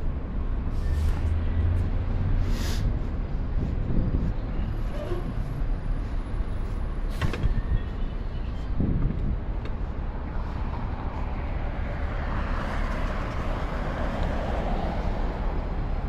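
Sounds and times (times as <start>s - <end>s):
low rumble of vehicles: 0.0s - 16.0s.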